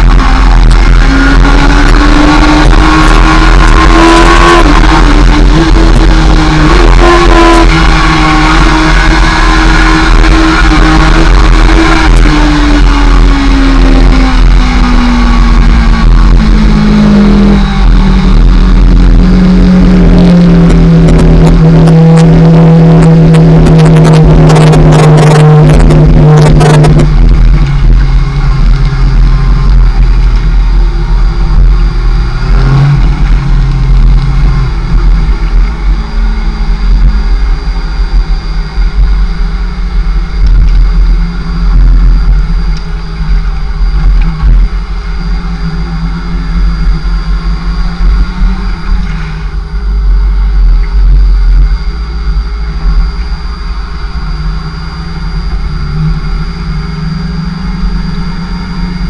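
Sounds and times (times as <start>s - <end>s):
motorcycle engine revving: 0.0s - 59.0s
wind rumble on microphone: 0.0s - 59.0s.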